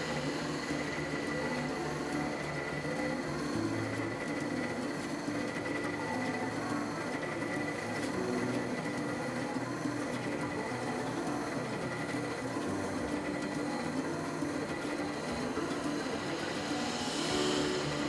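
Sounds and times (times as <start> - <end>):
wood lathe running: 0.0 - 18.0.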